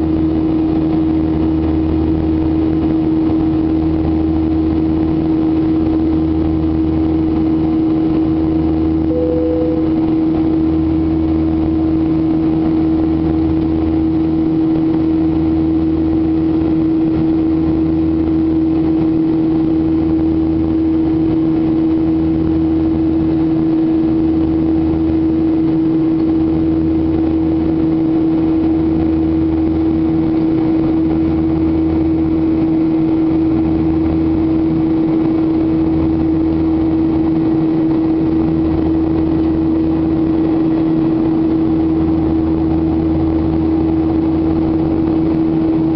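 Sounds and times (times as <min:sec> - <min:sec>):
jet engines humming with throb: 0:00.0 - 0:45.9.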